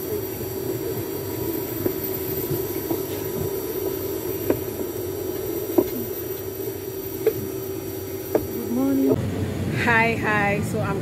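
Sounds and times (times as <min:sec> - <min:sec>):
airliner cabin hum: 0:00.0 - 0:11.0.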